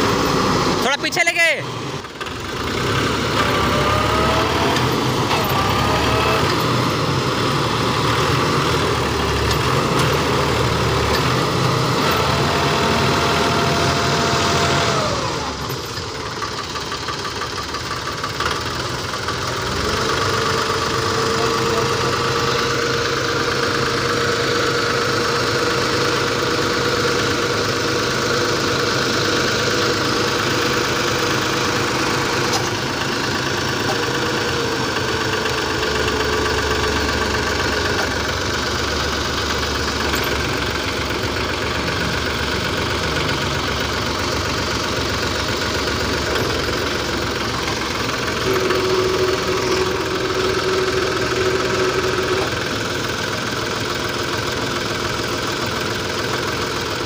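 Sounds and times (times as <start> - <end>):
tractor diesel engine straining: 0.0 - 57.0.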